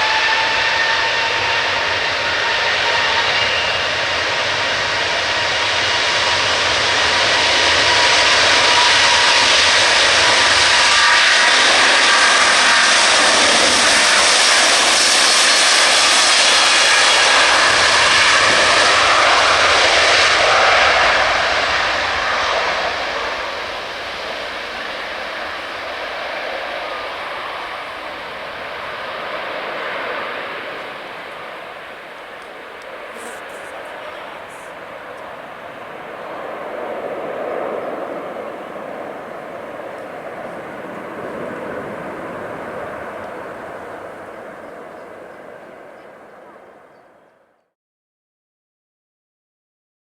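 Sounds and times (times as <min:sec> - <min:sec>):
jet engines roaring at takeoff: 0:00.0 - 0:47.3.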